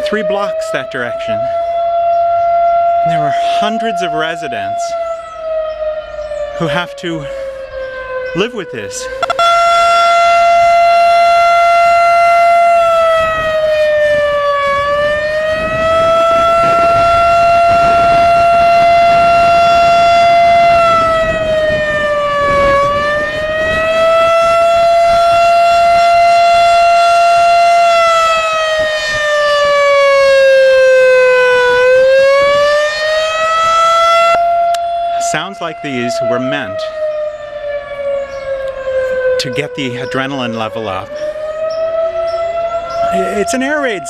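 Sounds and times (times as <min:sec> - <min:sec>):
wavering warning siren: 0:00.0 - 0:44.0.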